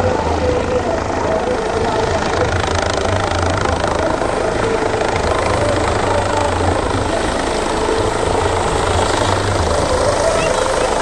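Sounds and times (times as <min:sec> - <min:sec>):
helicopter rotor and engine: 0:00.0 - 0:11.0.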